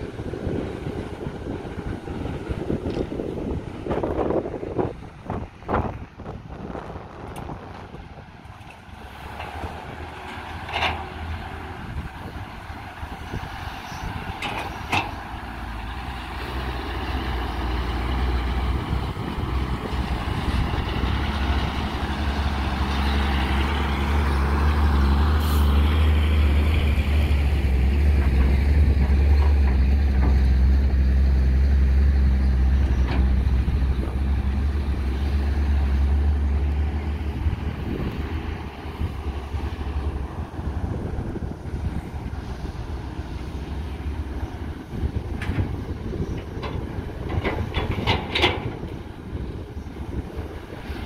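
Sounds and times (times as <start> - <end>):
excavator diesel engine drone: 0.0 - 51.0.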